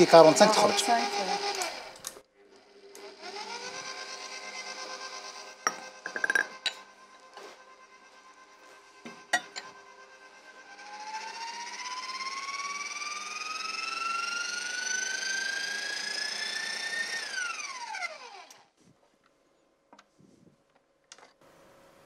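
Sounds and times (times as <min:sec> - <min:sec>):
stand mixer motor whine: 0:00.0 - 0:18.7.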